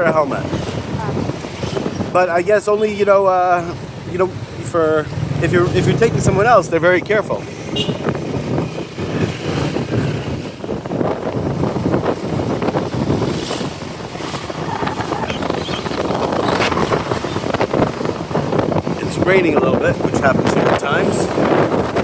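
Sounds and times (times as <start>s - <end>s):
road noise: 0.0s - 22.0s
wind buffeting microphone: 0.0s - 22.0s
motorcycle engine: 3.7s - 22.0s.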